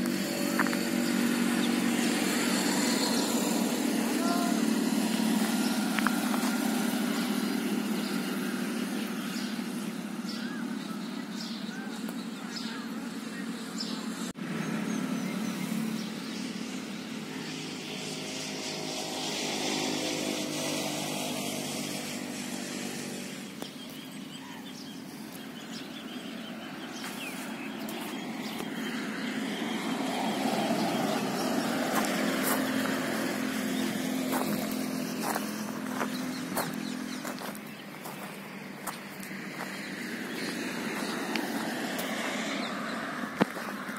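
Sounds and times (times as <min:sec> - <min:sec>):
traffic engine hum: 0:00.0 - 0:43.9.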